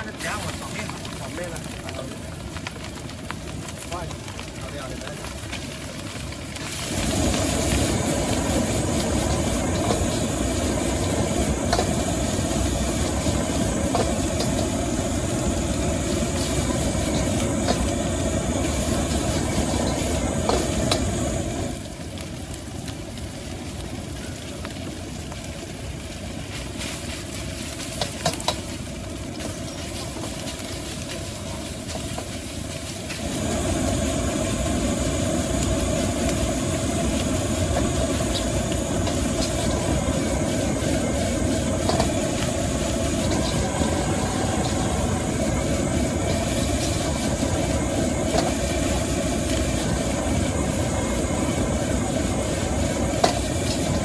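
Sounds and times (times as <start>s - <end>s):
food sizzling in a wok: 0.0s - 54.0s
gas burner roaring: 0.0s - 54.0s.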